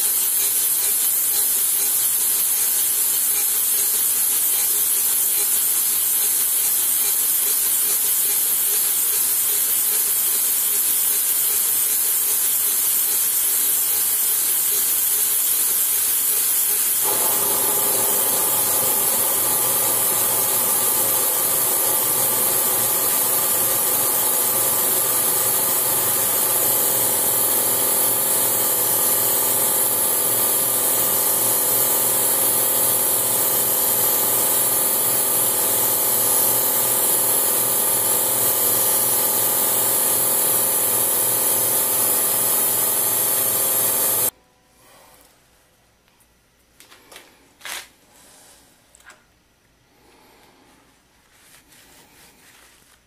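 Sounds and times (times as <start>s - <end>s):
grinder wheel hissing on steel: 0.0s - 44.3s.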